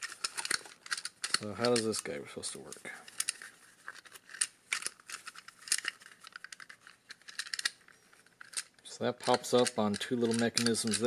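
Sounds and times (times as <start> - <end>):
plastic mechanism clicking: 0.0 - 2.0, 3.1 - 11.0.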